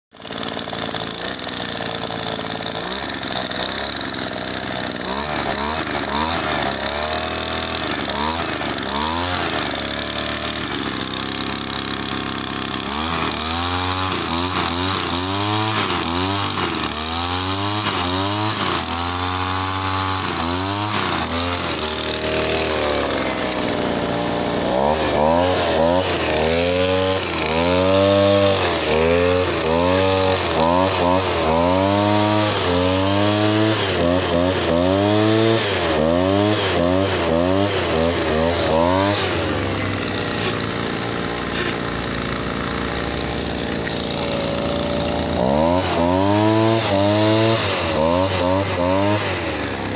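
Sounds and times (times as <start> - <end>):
two-stroke engine revving: 0.1 - 49.9.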